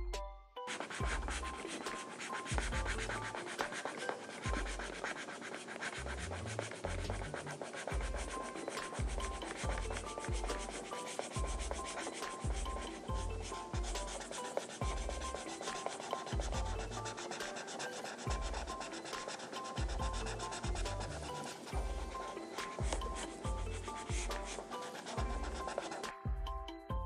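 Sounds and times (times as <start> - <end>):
background music with bassline: 0.0 - 3.8, 4.4 - 5.1, 5.9 - 17.5, 18.2 - 27.0
marker scribbling on paper: 0.7 - 26.2.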